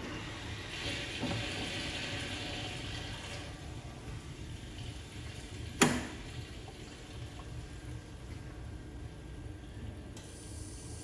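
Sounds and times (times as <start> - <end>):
water running through cooling system: 0.0 - 11.0.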